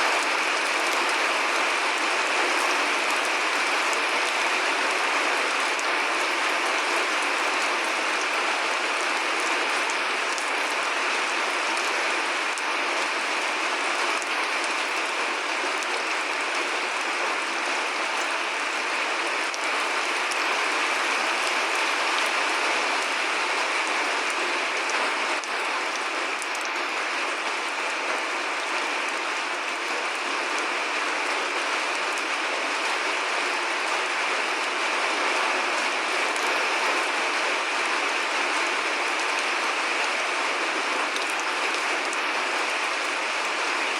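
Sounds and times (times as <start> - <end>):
steady rain patter: 0.0 - 43.9.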